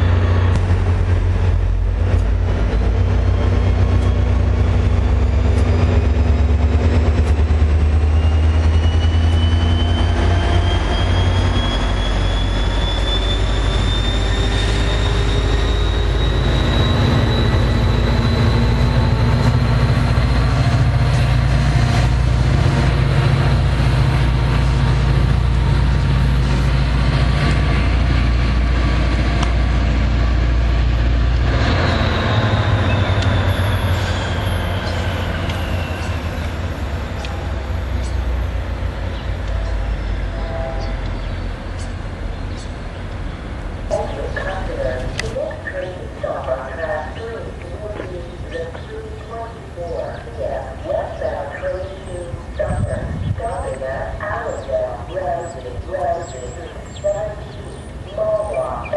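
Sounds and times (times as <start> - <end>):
diesel locomotive rumble and whine: 0.0 - 58.9
rail noise rush: 0.0 - 58.9.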